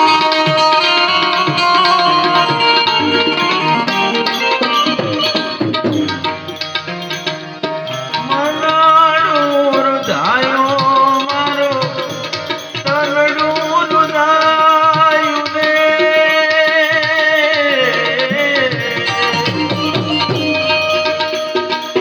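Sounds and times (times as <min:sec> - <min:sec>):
tabla playing a rhythm: 0:00.0 - 0:22.0
wavering banjo melody: 0:00.0 - 0:22.0.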